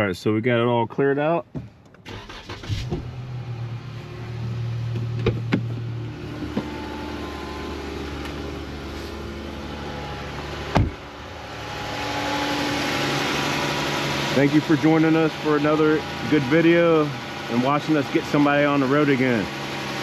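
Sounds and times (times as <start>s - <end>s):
car engine idling: 2.1s - 20.0s.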